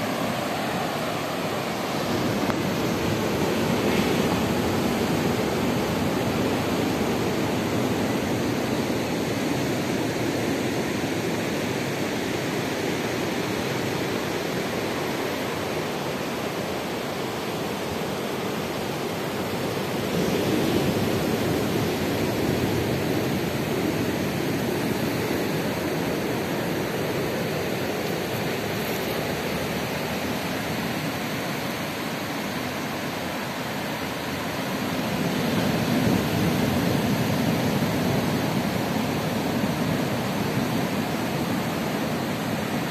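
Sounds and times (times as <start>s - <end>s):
ocean surf breaking on beach: 0.0s - 42.9s.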